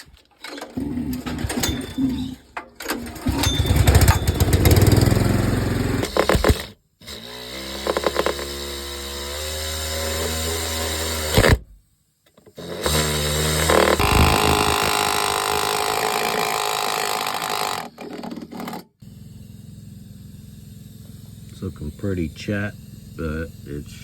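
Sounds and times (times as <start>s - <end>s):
power tool motor humming: 0.7s - 11.7s, 12.4s - 24.0s.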